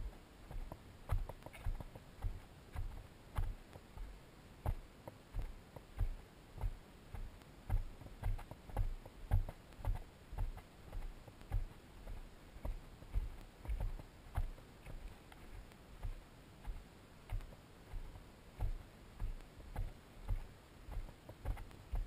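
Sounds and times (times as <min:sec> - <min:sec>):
footsteps on rocky dirt trail: 0:00.0 - 0:22.0.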